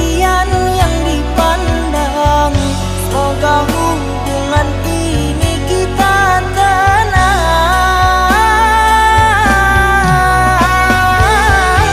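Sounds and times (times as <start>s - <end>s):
bass and beat: 0.0s - 11.9s
person singing ornamented melody: 0.0s - 11.9s.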